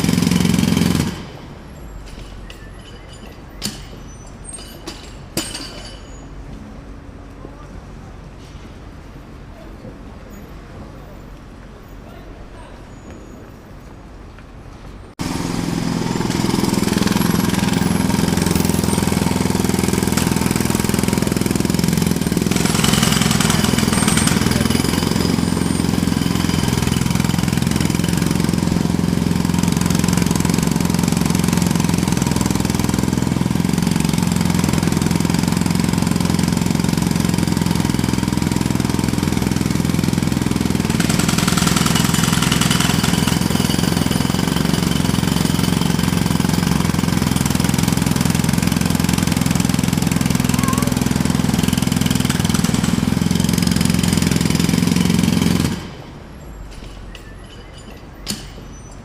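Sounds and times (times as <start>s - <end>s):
jackhammer hammering: 0.0s - 6.2s, 15.2s - 58.8s.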